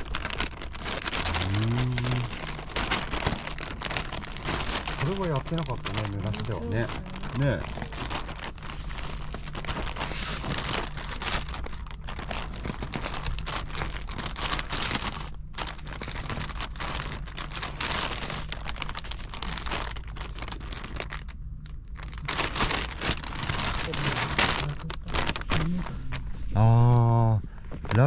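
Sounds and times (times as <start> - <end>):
plastic bag crinkling: 0.0 - 27.0, 27.6 - 28.0.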